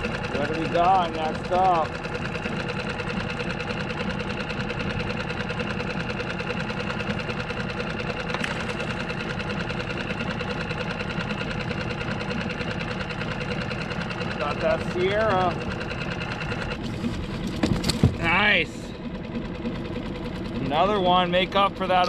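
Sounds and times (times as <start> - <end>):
outboard motor droning: 0.0 - 22.0.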